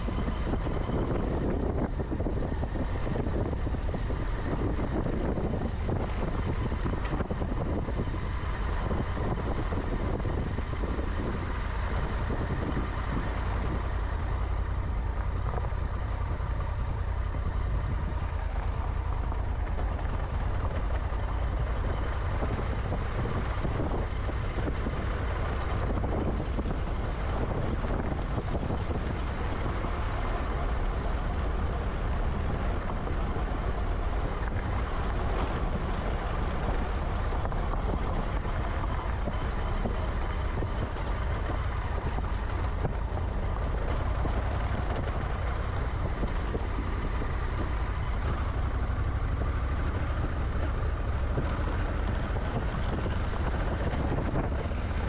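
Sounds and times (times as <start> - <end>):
motorcycle engine running: 0.0 - 55.0
tyres on gravel: 0.0 - 55.0
wind noise: 0.0 - 55.0.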